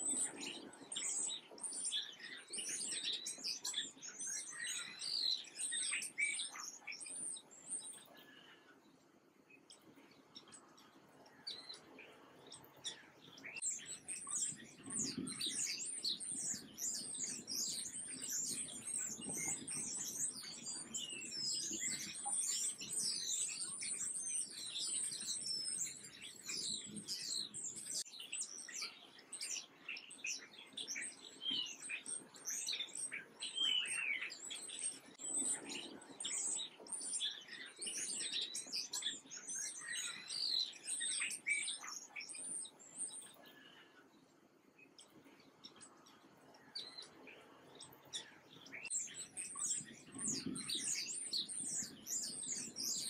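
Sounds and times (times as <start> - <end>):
songbirds chirping: 0.0 - 53.0.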